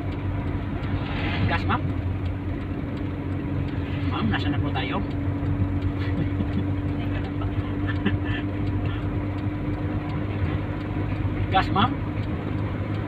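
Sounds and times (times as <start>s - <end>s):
car engine drone inside cabin: 0.0s - 13.0s.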